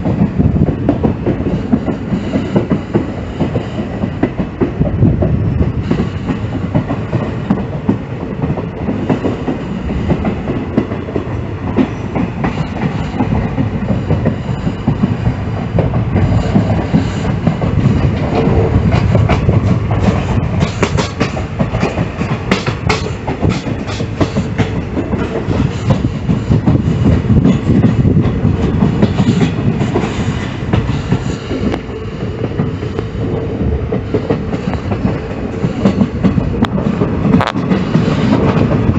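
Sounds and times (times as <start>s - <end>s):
train rolling rumble: 0.0s - 38.9s
wheels clacking over rail joints: 0.0s - 38.9s.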